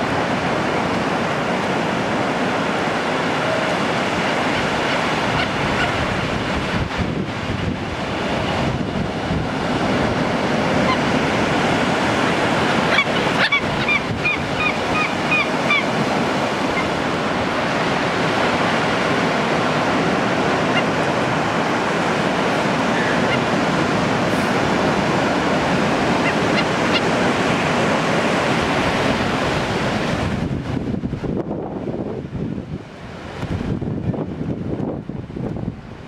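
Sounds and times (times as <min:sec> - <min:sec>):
surf breaking on a beach: 0:00.0 - 0:36.0.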